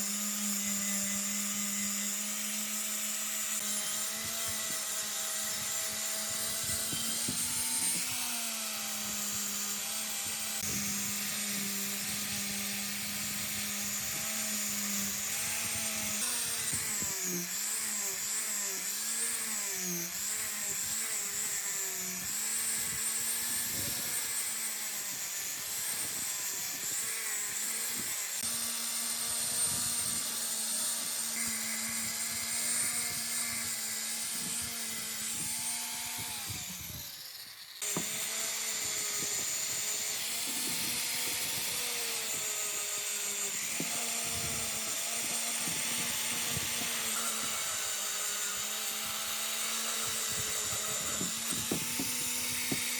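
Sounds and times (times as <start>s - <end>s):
electric power tool running: 0.0s - 52.9s.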